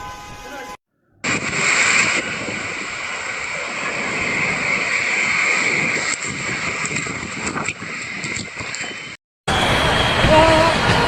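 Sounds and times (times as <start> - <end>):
steady rushing noise: 1.2 - 11.0.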